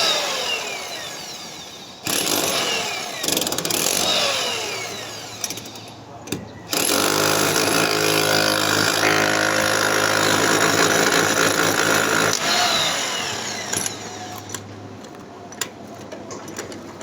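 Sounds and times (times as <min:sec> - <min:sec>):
power tool motor whine: 0:00.0 - 0:06.0, 0:06.7 - 0:14.6.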